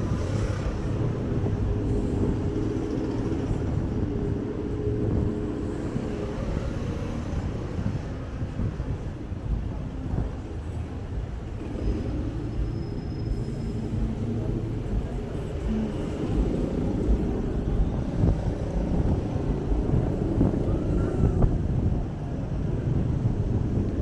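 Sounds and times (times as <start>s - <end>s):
car engines running: 0.0s - 24.0s.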